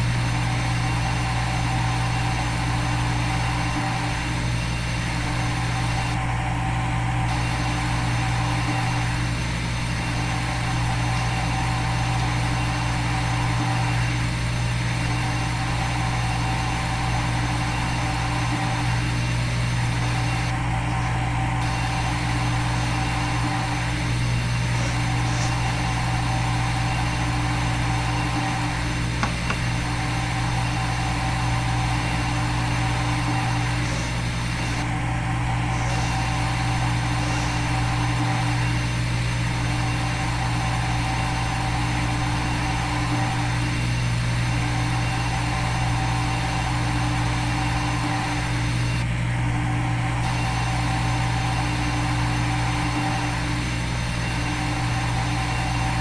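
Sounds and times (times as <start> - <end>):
milling machine hum: 0.0 - 56.0.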